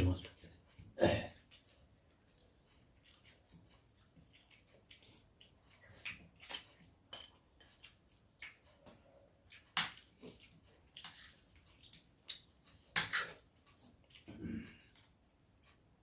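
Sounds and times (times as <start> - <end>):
wet chewing smacks: 1.4 - 15.6.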